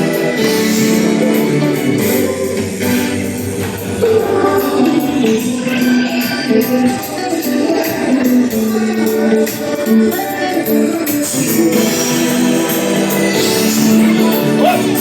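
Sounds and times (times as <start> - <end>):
faint singing: 0.0 - 15.0
music with a steady beat: 0.0 - 15.0.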